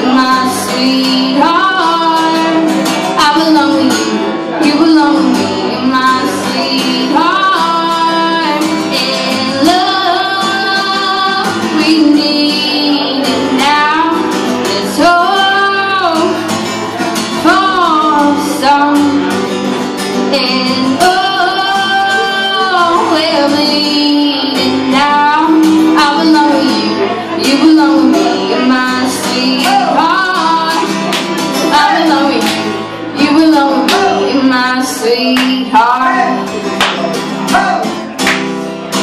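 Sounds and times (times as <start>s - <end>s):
woman singing: 0.0s - 36.8s
strummed acoustic guitar: 0.0s - 39.0s.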